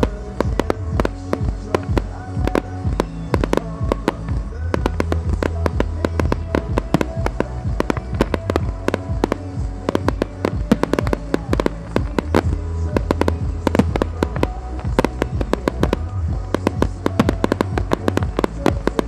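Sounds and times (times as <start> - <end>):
fireworks bursting: 0.0 - 19.0
music with heavy bass: 0.0 - 19.0.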